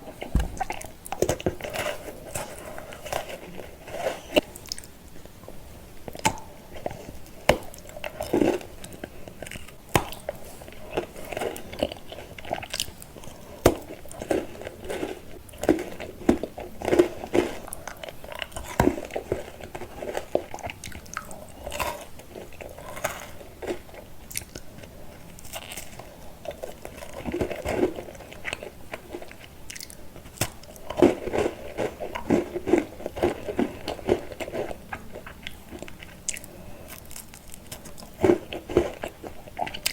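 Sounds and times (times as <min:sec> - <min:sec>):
chocolate candy crunching: 0:00.0 - 0:39.9
wet chewing: 0:00.0 - 0:39.9.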